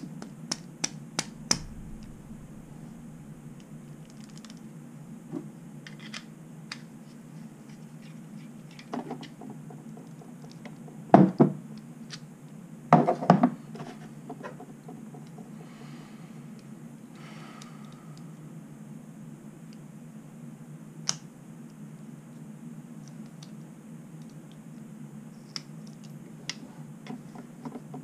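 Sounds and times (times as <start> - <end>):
steady low hum: 0.4 - 8.6, 13.6 - 28.0.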